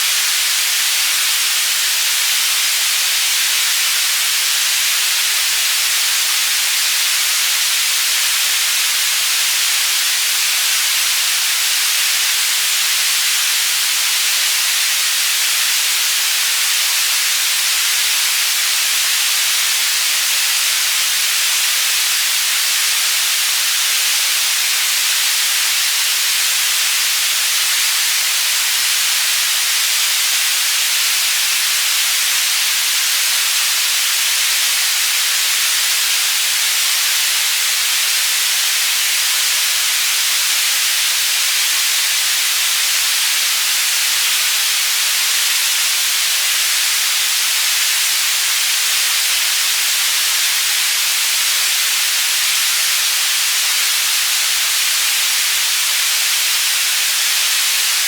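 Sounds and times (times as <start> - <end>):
high-pitched white noise hiss: 0.0 - 58.0.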